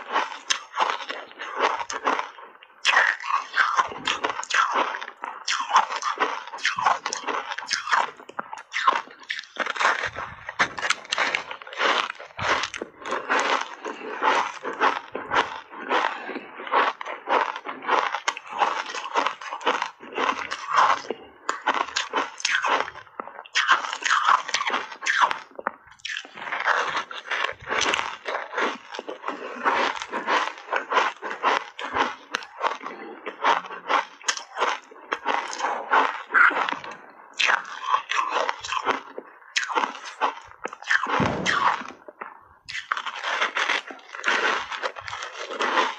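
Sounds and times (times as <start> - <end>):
crunching and chewing ice: 0.0 - 45.9.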